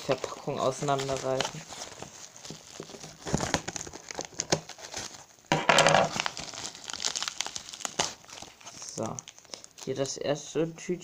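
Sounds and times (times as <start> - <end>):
packaging tearing: 0.0 - 10.2
packaging crinkling: 0.0 - 10.3.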